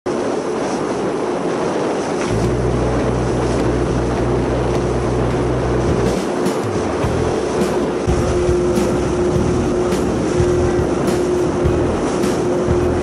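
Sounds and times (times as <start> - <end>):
water noise: 0.1 - 13.0
wind: 0.1 - 13.0
boat engine running: 1.9 - 13.0
deep pulsing hum: 2.3 - 13.0.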